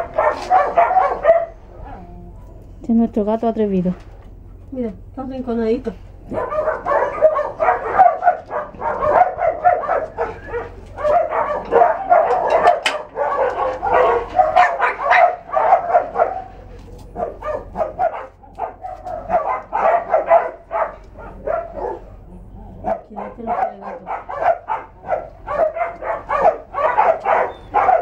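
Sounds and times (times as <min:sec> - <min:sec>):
dogs barking: 0:00.0 - 0:02.6, 0:06.2 - 0:28.0.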